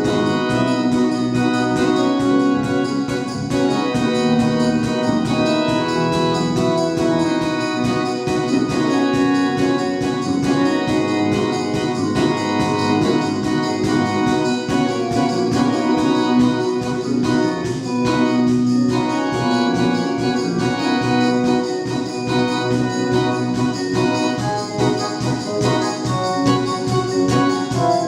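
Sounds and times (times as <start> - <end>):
organ-like keyboard chords: 0.0 - 28.0
steady drum beat: 0.0 - 28.0.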